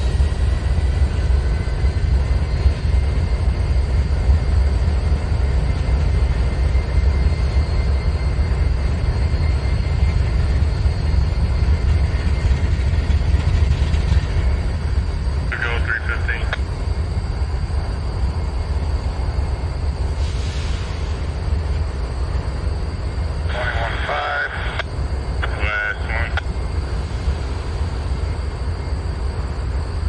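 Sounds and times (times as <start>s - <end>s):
faint steady whine: 0.0s - 30.0s
locomotive engine rumble: 0.0s - 30.0s.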